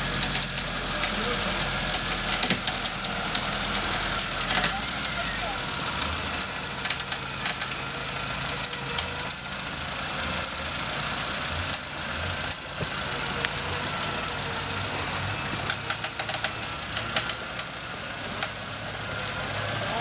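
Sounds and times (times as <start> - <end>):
off-road vehicle engine running: 0.0 - 20.0
twigs and stones crackling under tyres: 0.0 - 20.0.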